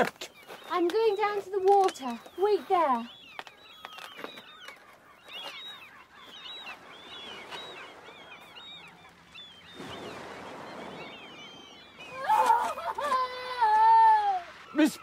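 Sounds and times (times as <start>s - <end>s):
seabirds calling: 0.0s - 15.0s.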